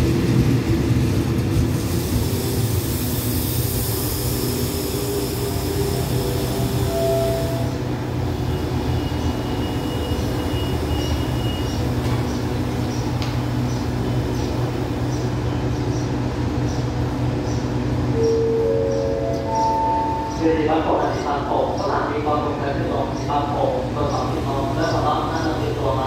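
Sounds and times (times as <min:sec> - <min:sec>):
diesel train engines idling: 0:00.0 - 0:26.0.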